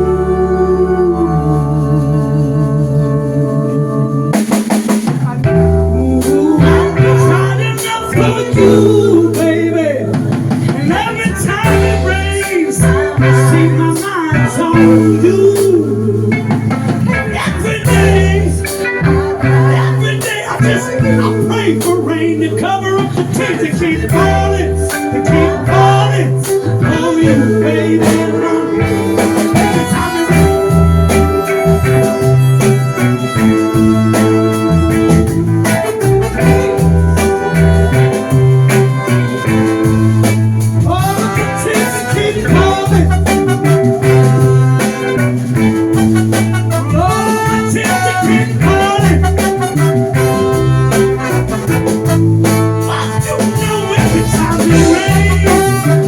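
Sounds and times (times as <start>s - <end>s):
bass line: 0.0s - 56.0s
bending lead notes: 0.0s - 56.0s
drums: 0.0s - 56.0s.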